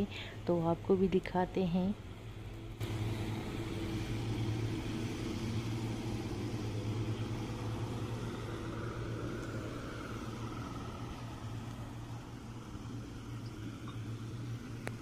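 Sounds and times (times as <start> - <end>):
outboard motors humming: 0.0 - 15.0
higher motor whine: 1.9 - 15.0.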